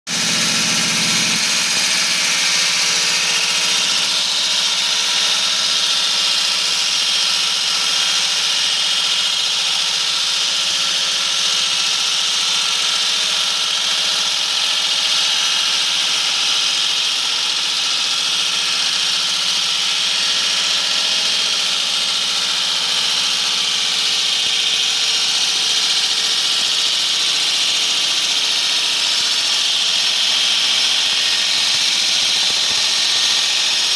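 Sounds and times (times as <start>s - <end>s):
concrete saw grinding whine: 0.1s - 33.9s.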